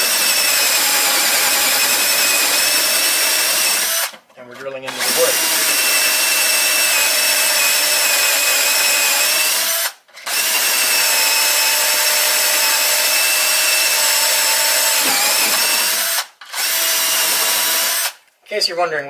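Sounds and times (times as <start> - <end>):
power drill boring into wood: 0.0 - 18.2.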